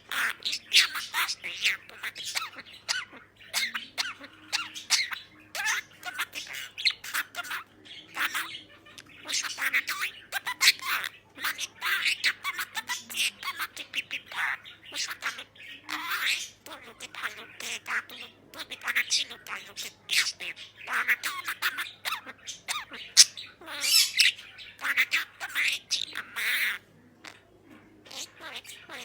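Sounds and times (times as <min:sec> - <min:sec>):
budgerigar chattering: 0:00.0 - 0:29.0.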